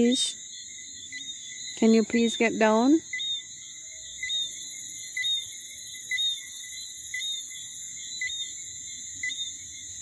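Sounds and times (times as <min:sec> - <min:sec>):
high-pitched insect drone: 0:00.0 - 0:10.0
insect chirping: 0:00.0 - 0:10.0.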